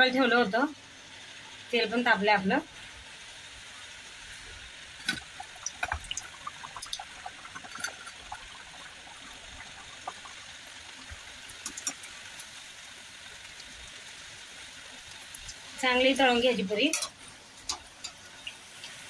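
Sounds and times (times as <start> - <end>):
dough deep-frying in oil: 0.0 - 19.0.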